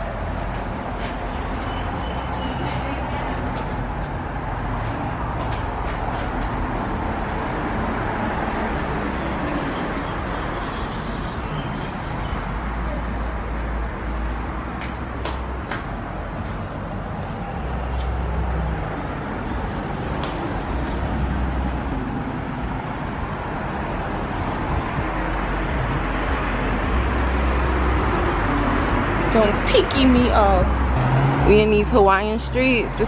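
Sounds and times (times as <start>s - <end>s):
car road noise rumble: 0.0s - 33.0s.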